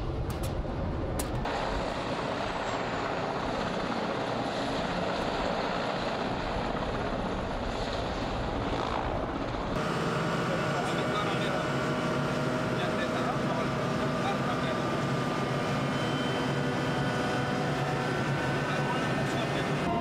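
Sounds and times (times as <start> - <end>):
helicopter turbine engine running: 0.0 - 20.0.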